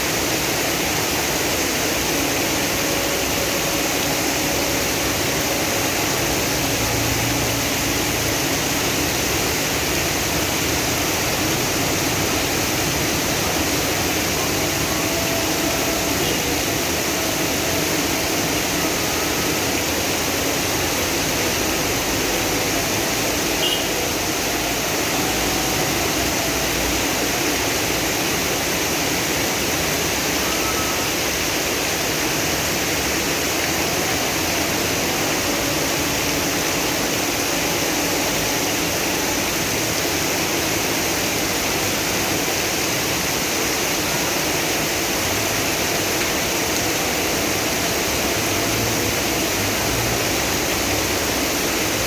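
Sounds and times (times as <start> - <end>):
heavy rain hissing: 0.0 - 52.0
rainwater rushing along street: 0.0 - 52.0.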